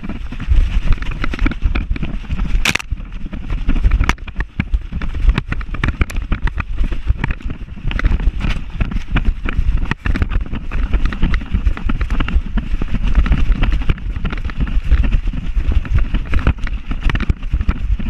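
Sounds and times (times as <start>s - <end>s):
wind buffeting: 0.0s - 18.0s.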